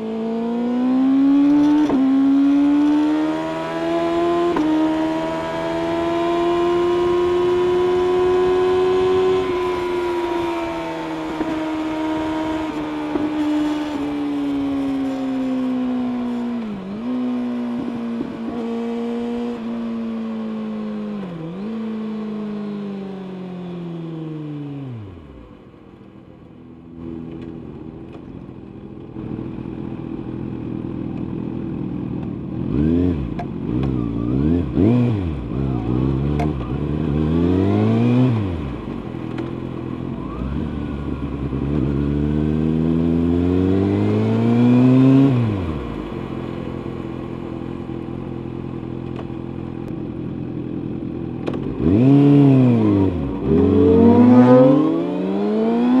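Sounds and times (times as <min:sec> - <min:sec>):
motorcycle engine revving: 0:00.0 - 0:25.5, 0:29.1 - 0:56.0.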